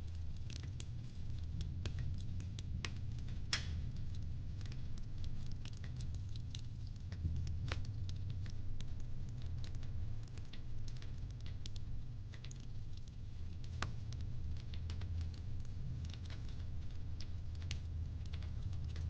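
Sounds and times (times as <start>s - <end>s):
fireplace crackling: 0.0s - 19.0s
low fire rumble: 0.0s - 19.0s.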